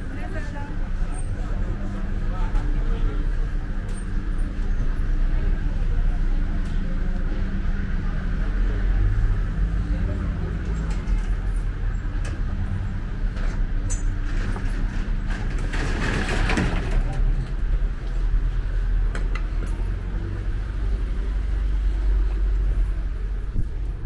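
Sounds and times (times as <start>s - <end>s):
traffic engine rumble: 0.0s - 24.0s.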